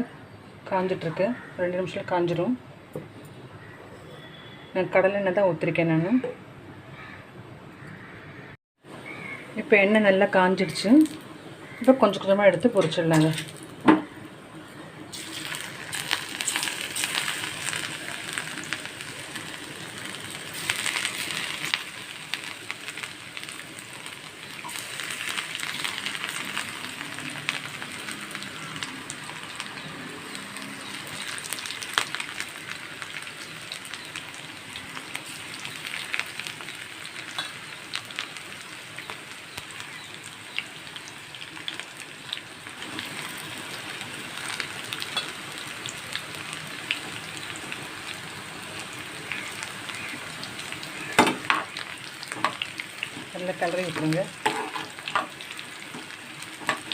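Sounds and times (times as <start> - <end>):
battered vegetables deep-frying in oil: 0.0 - 7.2, 7.8 - 56.9.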